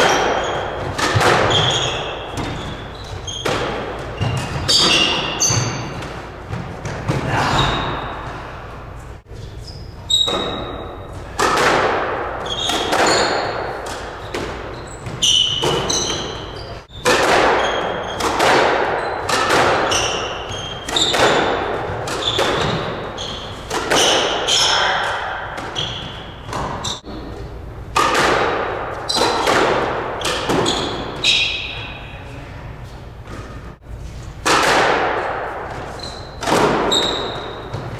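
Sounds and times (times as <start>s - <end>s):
sneakers squeaking on hardwood: 0.0s - 8.4s, 9.4s - 11.4s, 12.4s - 27.6s, 29.0s - 32.2s, 35.8s - 37.9s
squash ball hitting rackets and walls: 0.0s - 37.9s.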